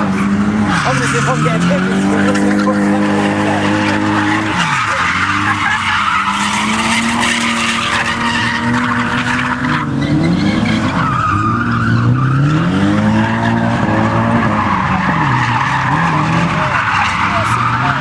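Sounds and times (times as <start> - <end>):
car engine revving: 0.0 - 18.0
tyres squealing: 0.0 - 18.0.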